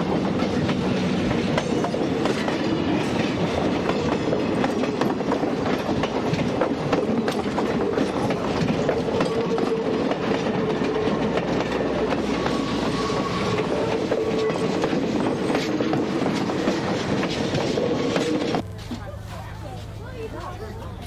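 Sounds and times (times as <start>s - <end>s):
train wheels clacking over joints: 0.0s - 18.6s.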